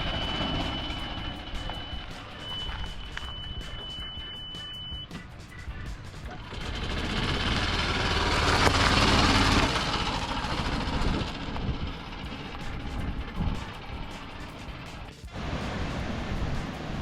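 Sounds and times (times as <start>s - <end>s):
golf cart motor humming: 0.0s - 17.0s.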